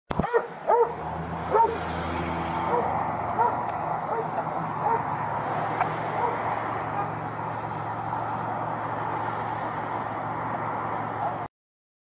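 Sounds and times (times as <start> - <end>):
vehicle road noise rumble: 0.1 - 11.5.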